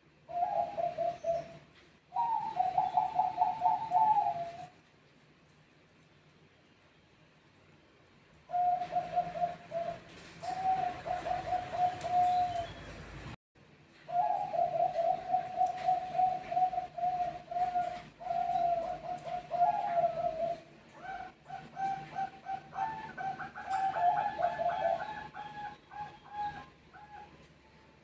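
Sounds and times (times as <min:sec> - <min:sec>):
doves cooing: 0:00.3 - 0:04.8, 0:08.5 - 0:13.3, 0:14.1 - 0:28.0.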